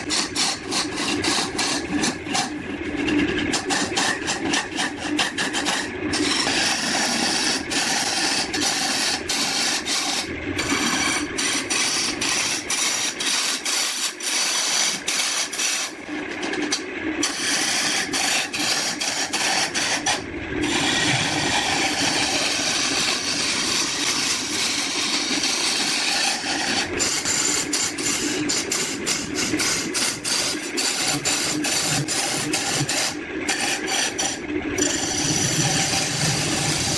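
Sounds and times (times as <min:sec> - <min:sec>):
cutting tool scraping wood on lathe: 0:00.0 - 0:36.9.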